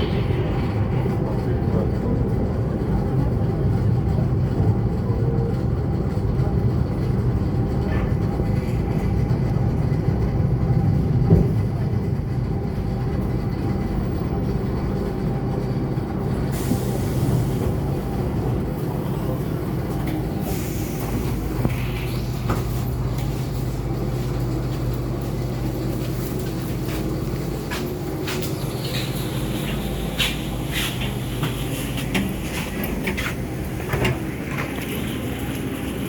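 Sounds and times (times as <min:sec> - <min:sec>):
electric train humming: 0:00.0 - 0:36.0.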